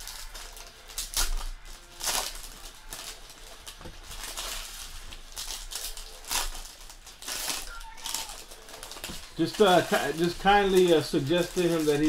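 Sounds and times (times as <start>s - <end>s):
foil wrapper ripping: 0.0s - 12.0s
foil wrappers crinkling: 0.0s - 12.0s.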